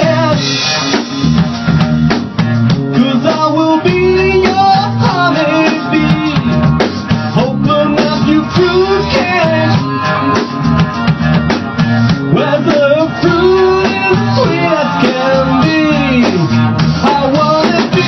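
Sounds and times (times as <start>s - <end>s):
drum-kit beat: 0.0s - 18.0s
guitar: 0.0s - 18.0s
person singing: 2.8s - 18.0s.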